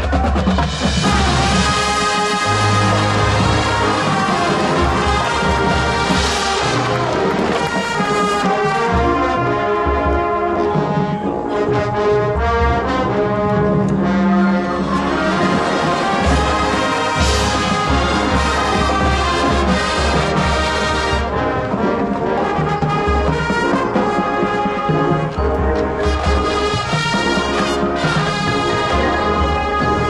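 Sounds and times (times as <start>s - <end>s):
marching band playing: 0.0s - 30.0s.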